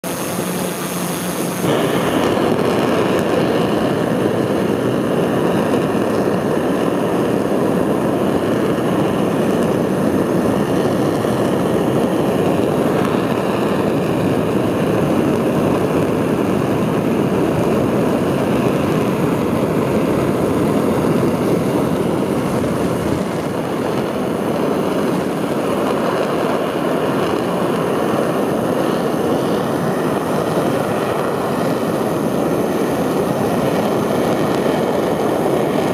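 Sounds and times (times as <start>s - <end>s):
rocket engine roar: 0.0s - 35.9s.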